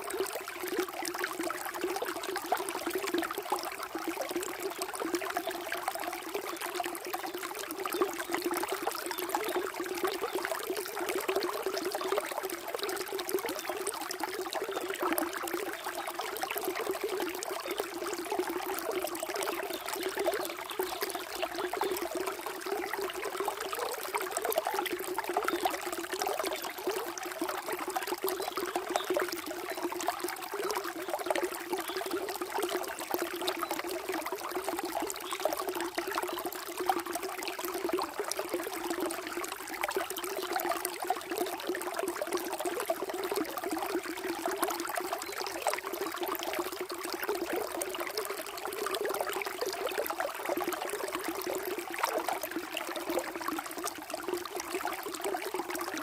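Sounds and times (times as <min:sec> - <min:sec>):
water trickling and babbling: 0:00.0 - 0:56.0.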